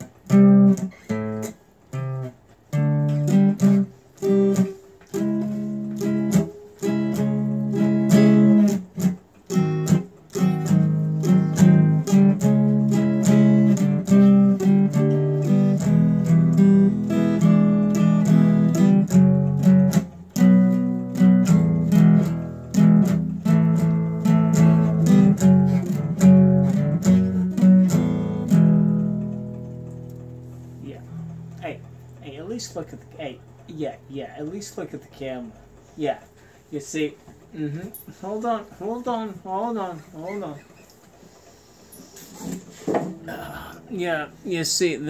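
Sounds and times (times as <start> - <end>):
acoustic guitar strummed: 0.0 - 45.0.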